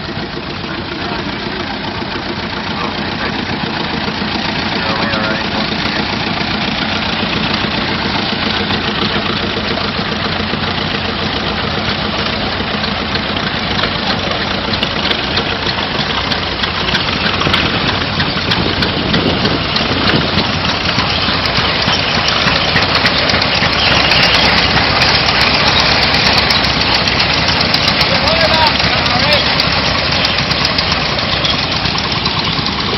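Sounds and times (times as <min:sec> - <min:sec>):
engine idling: 0:00.0 - 0:32.9.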